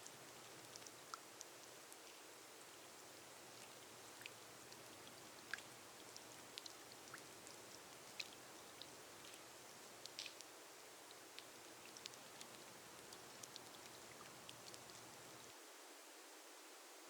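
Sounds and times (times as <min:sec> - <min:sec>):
faint rain on a glass roof: 0:00.0 - 0:17.0.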